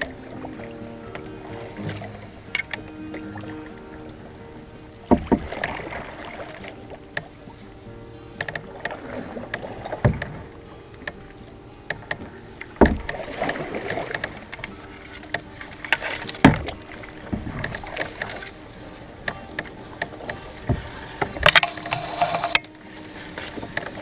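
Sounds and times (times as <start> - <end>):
paddle splashing: 0.0 - 24.0.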